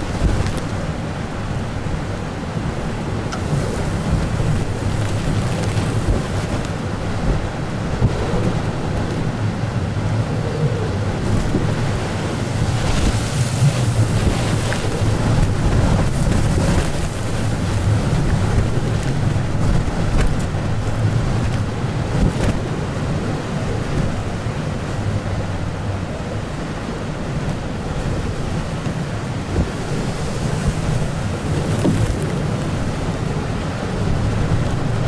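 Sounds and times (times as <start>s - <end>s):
blizzard wind gusting on microphone: 0.0s - 35.0s.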